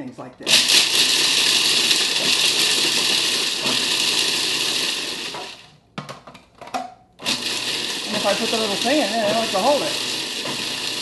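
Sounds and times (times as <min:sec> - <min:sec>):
food processor chopping nuts: 0:00.5 - 0:05.6, 0:07.2 - 0:11.0.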